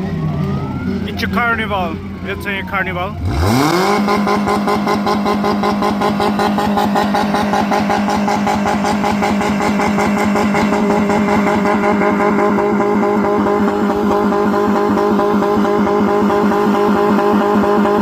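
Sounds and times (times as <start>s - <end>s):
old car engine running: 0.0s - 18.0s.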